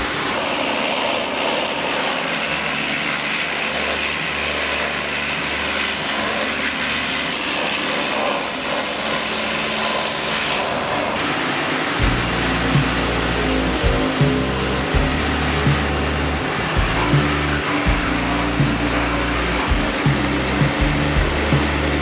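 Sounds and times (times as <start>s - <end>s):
pressure washer spraying metal: 0.0s - 22.0s.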